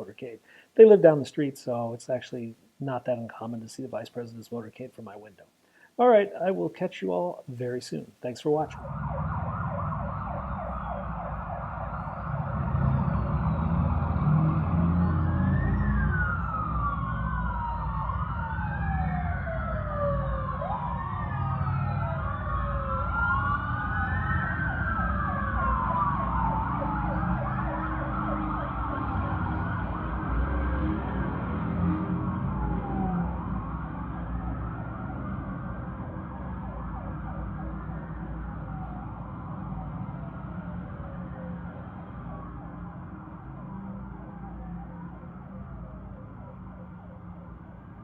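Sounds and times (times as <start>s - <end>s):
police sirens wailing: 8.6s - 48.0s
vehicles rumbling: 8.8s - 48.0s.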